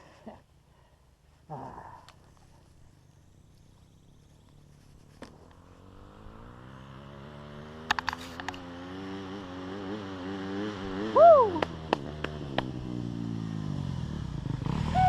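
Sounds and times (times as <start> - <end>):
dirt bike engine approaching: 0.0 - 15.0.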